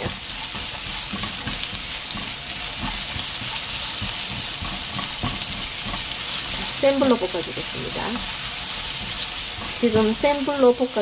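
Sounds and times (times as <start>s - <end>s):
spatula knocking in wok: 0.0s - 10.8s
onion and garlic sizzling in oil: 0.0s - 11.0s.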